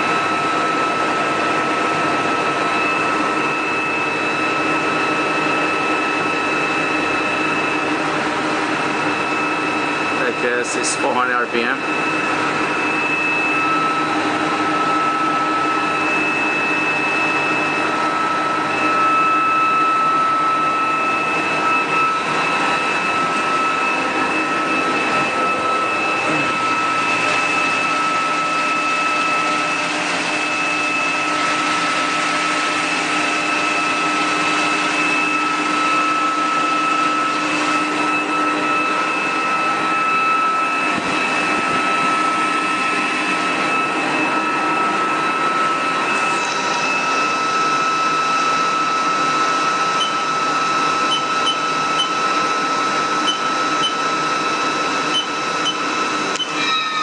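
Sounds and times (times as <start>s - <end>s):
lathe running with high whine: 0.0s - 57.0s.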